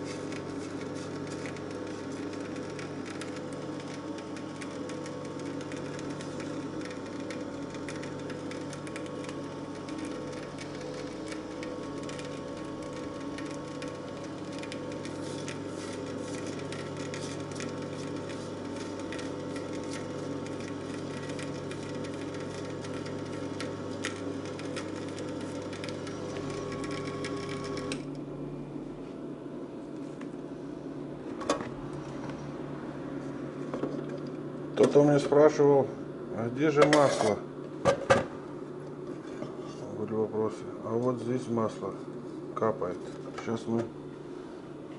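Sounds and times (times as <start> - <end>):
oil press motor humming: 0.0 - 44.9.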